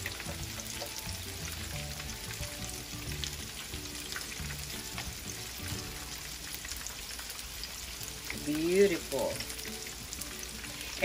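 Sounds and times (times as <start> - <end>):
background music: 0.0 - 11.0
chicken frying in hot oil: 0.0 - 11.0.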